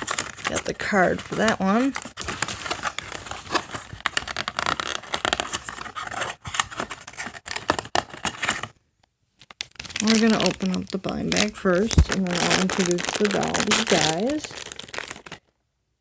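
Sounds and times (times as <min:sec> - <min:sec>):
packaging crinkling and ripping: 0:00.0 - 0:08.8, 0:09.4 - 0:15.5.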